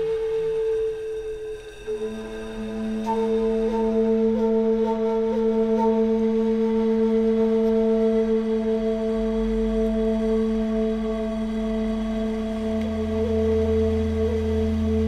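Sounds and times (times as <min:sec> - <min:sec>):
droning background music: 0:00.0 - 0:15.0.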